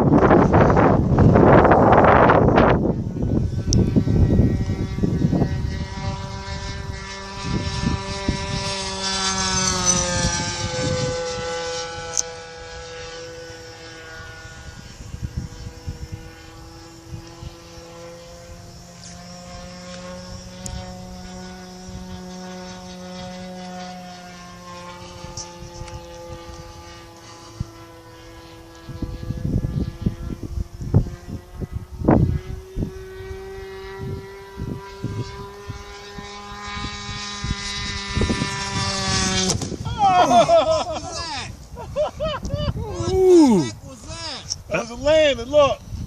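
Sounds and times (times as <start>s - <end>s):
model airplane engine flying: 0.0s - 46.0s
wind buffeting microphone: 0.0s - 46.0s.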